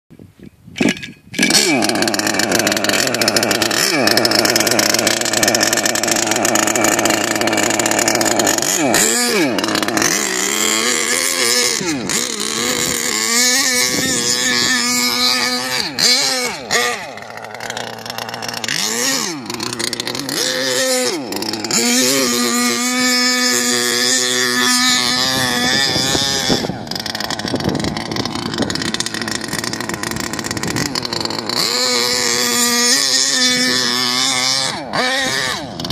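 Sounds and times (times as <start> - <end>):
small two-stroke engine revving: 0.8 - 35.9.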